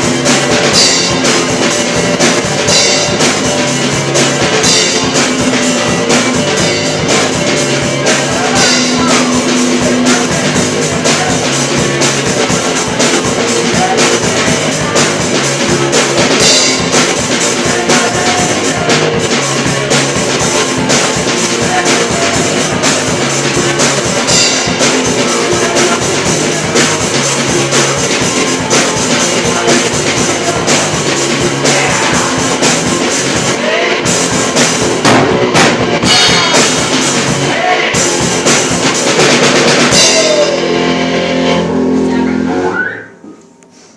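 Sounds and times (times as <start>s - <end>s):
drum kit: 0.0s - 43.9s
guitar: 0.0s - 43.9s.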